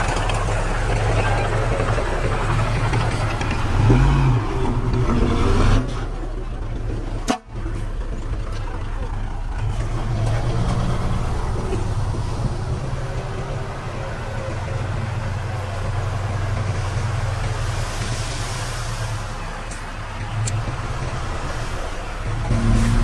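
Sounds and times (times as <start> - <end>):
heavy machinery diesel engine: 0.0 - 23.0.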